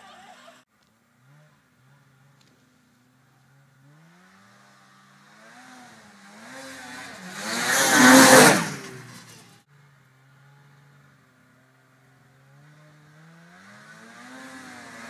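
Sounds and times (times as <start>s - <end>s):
snowmobile engine revving: 0.0s - 9.7s, 12.2s - 15.0s.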